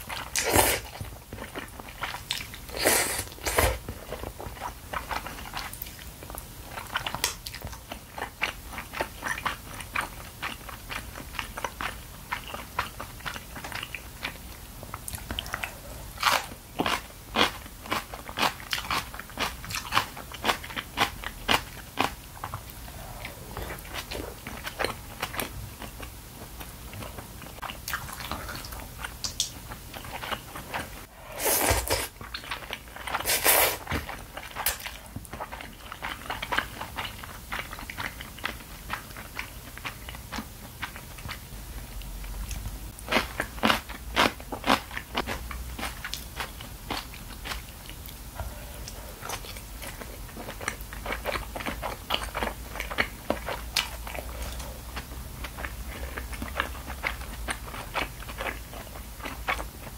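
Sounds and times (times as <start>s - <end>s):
close-up chewing noodles: 0.0s - 59.9s.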